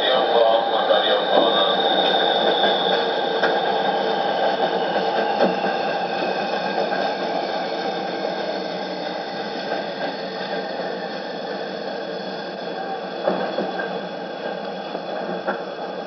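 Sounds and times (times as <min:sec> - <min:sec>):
electric train motor whining: 0:00.0 - 0:16.0
rolling train wheels: 0:00.0 - 0:16.0.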